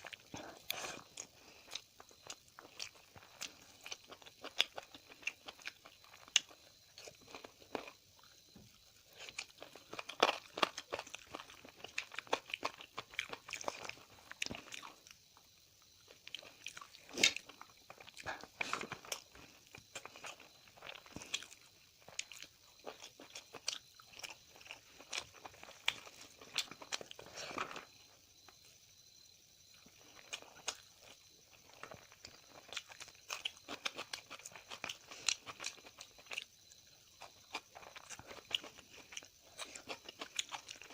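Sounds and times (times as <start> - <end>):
person chewing crunchy food: 0.0 - 28.7, 29.6 - 40.9.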